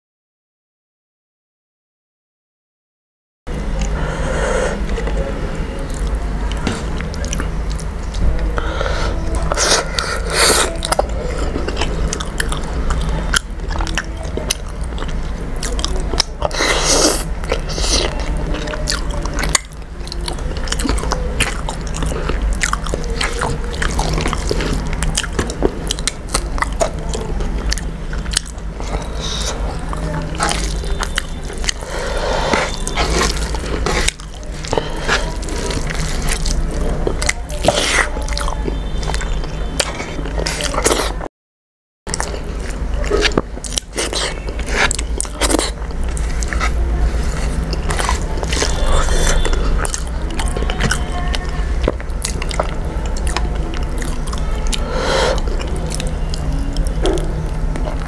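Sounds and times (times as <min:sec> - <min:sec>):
low steady hum: 0:03.5 - 0:41.3, 0:42.1 - 0:58.0
chewing with wet smacks: 0:05.8 - 0:08.6, 0:09.2 - 0:41.3, 0:42.1 - 0:58.0
fingers squishing food: 0:09.2 - 0:41.2, 0:42.1 - 0:58.0.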